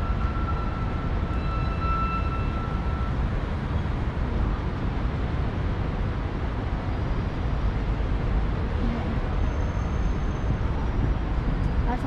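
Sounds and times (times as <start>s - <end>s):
low city background rumble: 0.0s - 12.0s.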